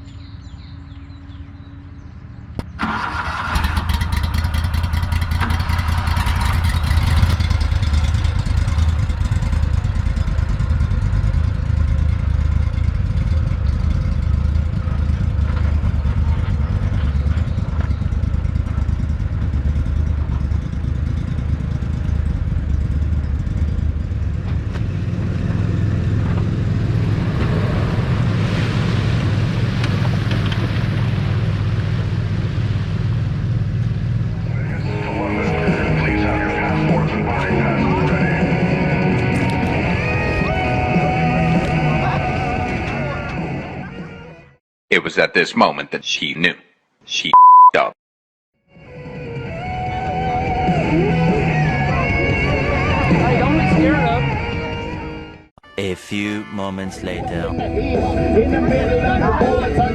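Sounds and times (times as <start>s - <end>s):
engine running with low hum: 0.0s - 44.3s, 48.8s - 55.5s, 57.5s - 59.9s.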